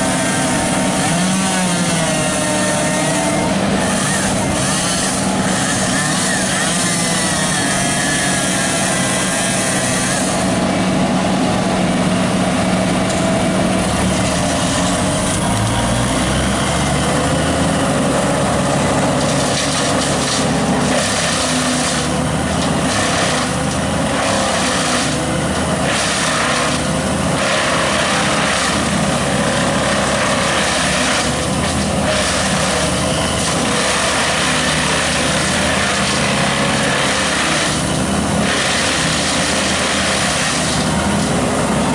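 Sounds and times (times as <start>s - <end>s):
tree-removal machine engine running: 0.0s - 41.9s.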